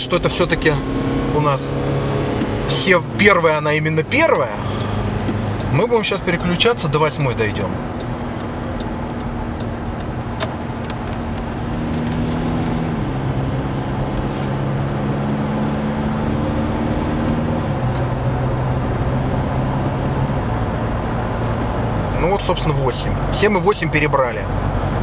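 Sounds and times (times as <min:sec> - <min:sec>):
diesel engine from inside cab: 0:00.0 - 0:25.0
road noise: 0:00.0 - 0:25.0.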